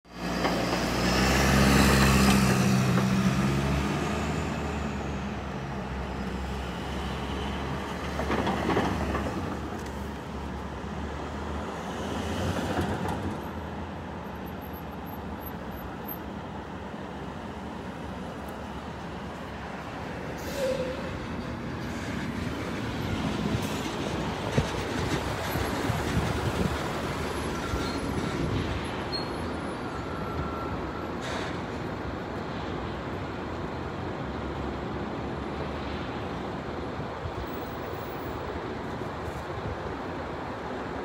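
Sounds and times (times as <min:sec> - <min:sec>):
traffic hum: 0:00.1 - 0:41.0
vehicles passing: 0:00.1 - 0:41.0.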